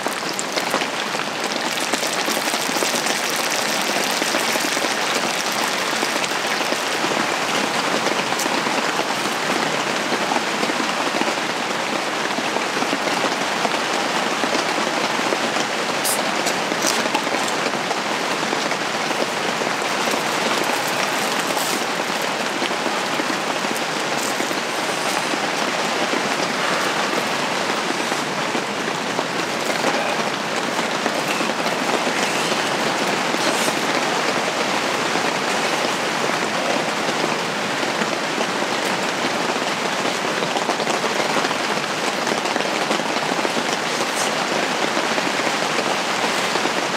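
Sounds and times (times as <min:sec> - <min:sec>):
rain on a fabric roof: 0:00.0 - 0:46.9.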